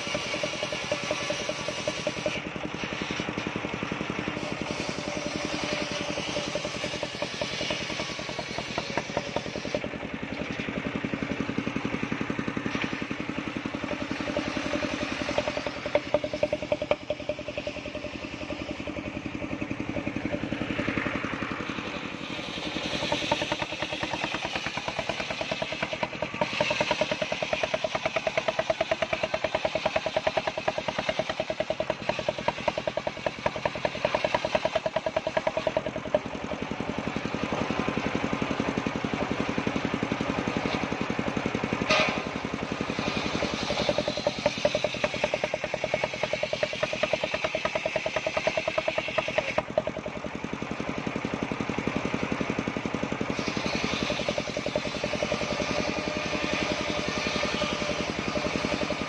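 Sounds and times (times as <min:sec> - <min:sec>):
saw blade cutting wood: 0:00.0 - 0:59.0
sawmill engine running: 0:00.0 - 0:59.0.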